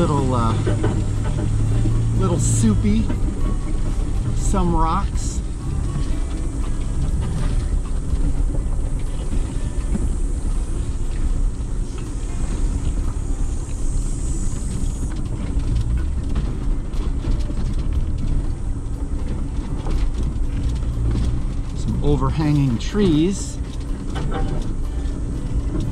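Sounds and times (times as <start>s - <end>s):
engine and tyres rumbling: 0.0s - 25.9s
rattles and knocks: 0.0s - 25.9s.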